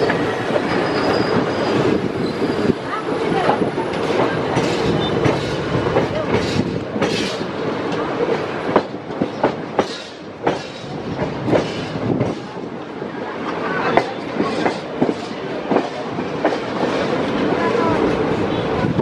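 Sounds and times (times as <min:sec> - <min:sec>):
wheels clacking over rail joints: 0:00.0 - 0:18.8
train wheels rumbling: 0:00.0 - 0:19.0.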